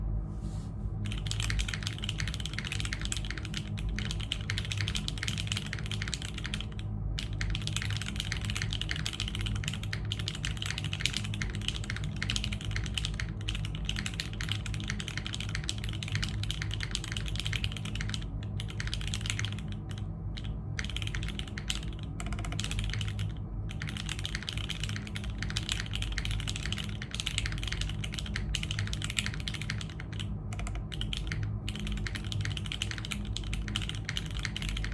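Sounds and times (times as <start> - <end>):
typing on mechanical keyboard: 1.1 - 34.9.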